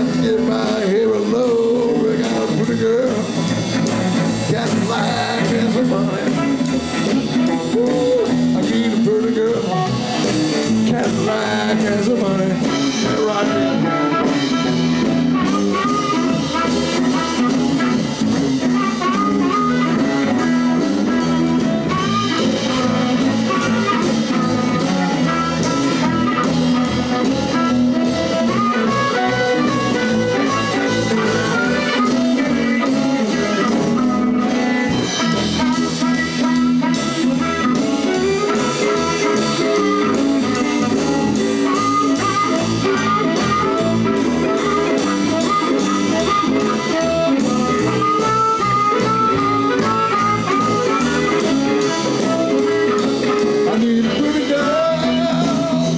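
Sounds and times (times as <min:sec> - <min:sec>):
bass guitar: 0:00.0 - 0:55.9
drum kit: 0:00.0 - 0:55.9
electric guitar: 0:00.0 - 0:55.9.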